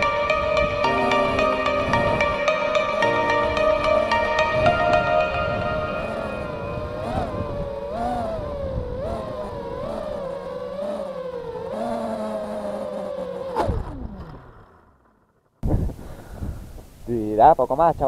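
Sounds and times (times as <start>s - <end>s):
drone motors whining: 0.0s - 15.5s.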